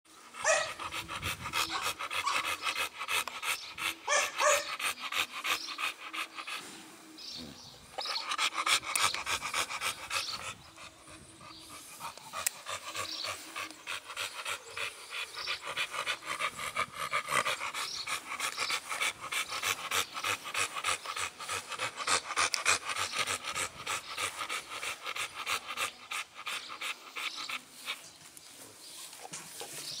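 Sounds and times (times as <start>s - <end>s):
dog panting: 0.1s - 28.2s.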